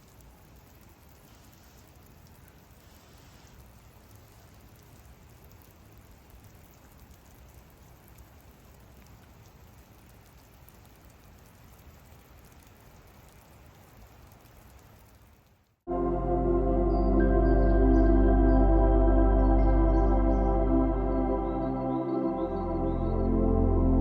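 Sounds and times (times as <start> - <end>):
soft rainfall pattering: 0.0 - 24.0.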